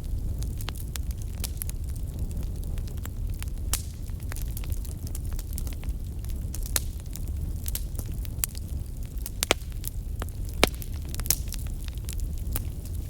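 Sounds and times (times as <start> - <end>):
fire crackles and pops: 0.0 - 13.0
rumble of fire flames: 0.0 - 13.0.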